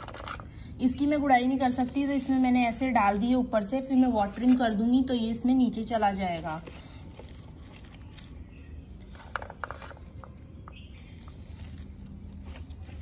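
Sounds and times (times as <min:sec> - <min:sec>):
fingers rustling in soil and leaves: 0:01.1 - 0:04.8, 0:06.2 - 0:13.0.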